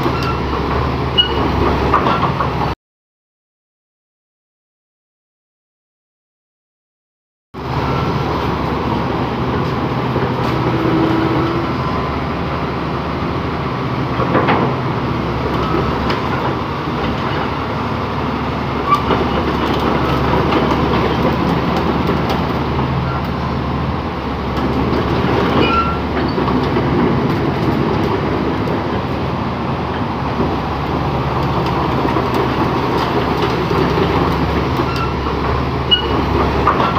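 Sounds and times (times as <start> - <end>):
bulldozer diesel engine running: 0.0 - 2.8, 7.6 - 36.9.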